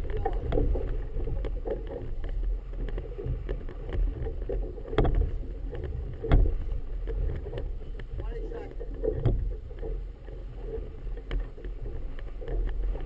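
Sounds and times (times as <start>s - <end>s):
small knocks: 0.0s - 13.0s
water lapping against boat hull: 0.0s - 13.0s
wind buffeting microphone: 0.0s - 13.0s.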